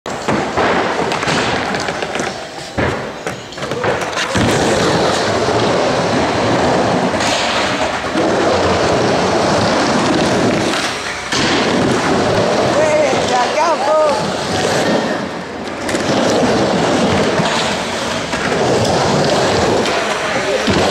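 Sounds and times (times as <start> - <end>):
skateboard wheels rolling on wood: 0.1 - 20.9.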